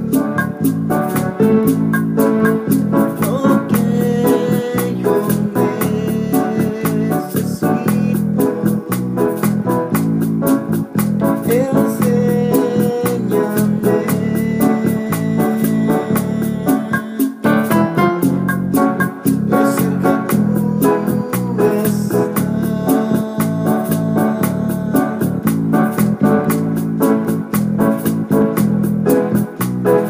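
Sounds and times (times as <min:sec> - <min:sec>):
organ-like electronic keyboard: 0:00.0 - 0:30.0
programmed beat: 0:00.0 - 0:30.0.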